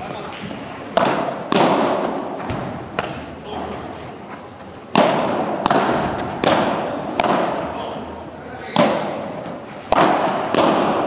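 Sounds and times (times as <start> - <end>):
racket hitting ball: 0.0 - 3.8, 4.8 - 8.1, 8.7 - 11.0.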